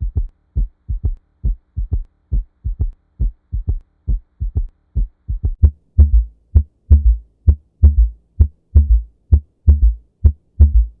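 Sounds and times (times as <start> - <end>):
heartbeat through stethoscope: 0.0 - 11.0.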